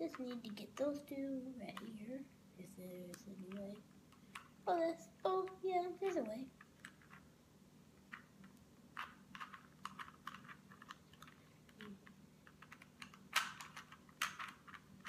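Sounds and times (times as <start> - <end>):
puzzle cube plastic clicking: 0.0 - 2.0, 2.9 - 7.3, 8.0 - 15.0.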